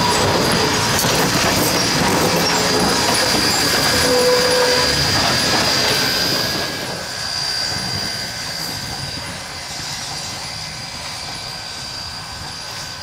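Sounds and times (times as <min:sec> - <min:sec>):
steam locomotive chugging: 0:00.0 - 0:13.0.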